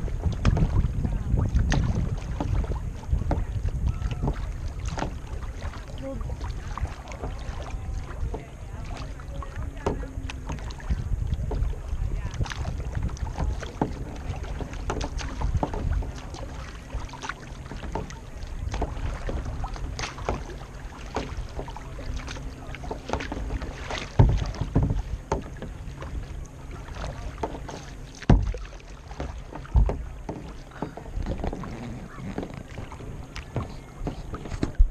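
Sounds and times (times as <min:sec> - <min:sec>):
knocks and thumps on boat: 0:00.0 - 0:34.9
water splashing against kayak: 0:00.0 - 0:34.9.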